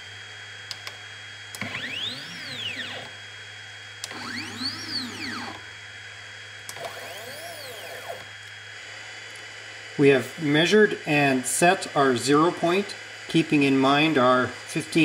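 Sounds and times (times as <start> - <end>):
stepper motor whine: 1.3 - 15.0.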